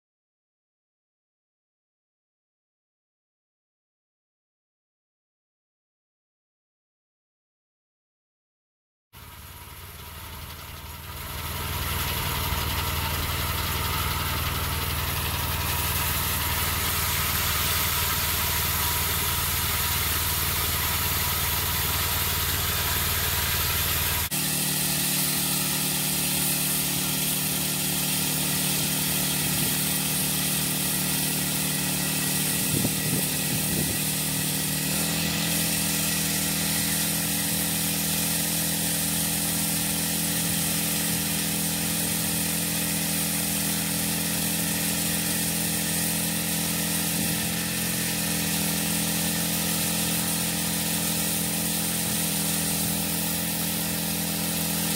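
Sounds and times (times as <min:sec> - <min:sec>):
small gas engine running: 0:09.2 - 0:54.9.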